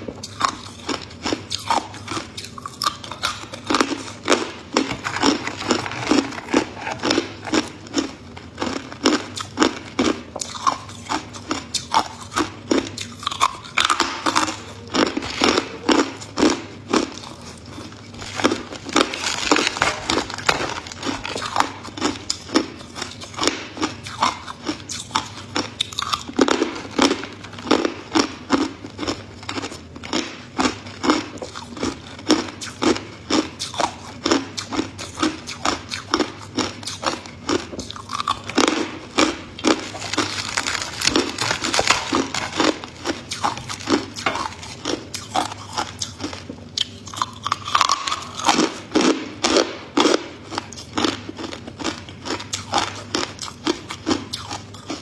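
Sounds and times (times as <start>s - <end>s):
person chewing hard ice: 0.0s - 55.0s.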